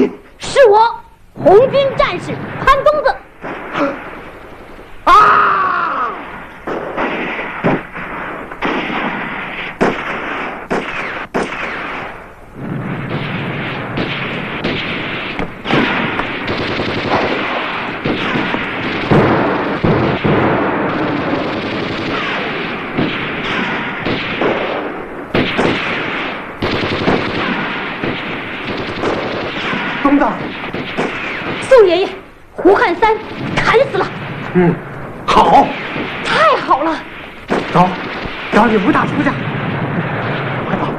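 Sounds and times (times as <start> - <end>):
dense noise: 0.0 - 40.9
gunshots: 1.4 - 40.9.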